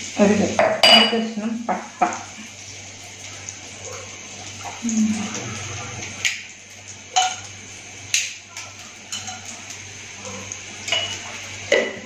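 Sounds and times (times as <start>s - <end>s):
spices sizzling in butter: 0.0s - 12.0s.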